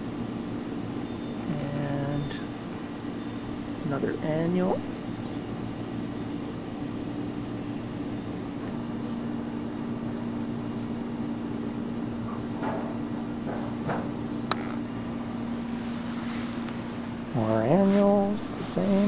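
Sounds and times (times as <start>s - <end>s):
constant hiss: 0.0s - 19.0s
low mechanical hum: 0.0s - 19.0s.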